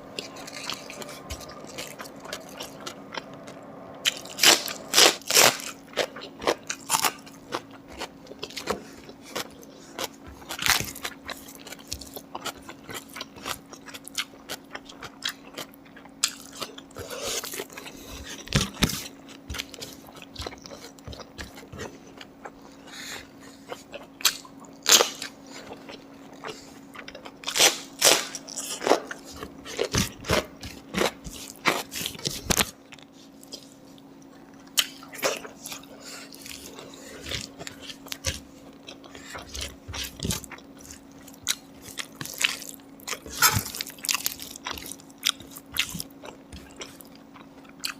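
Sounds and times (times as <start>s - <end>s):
chewing and biting food: 0.0s - 47.9s.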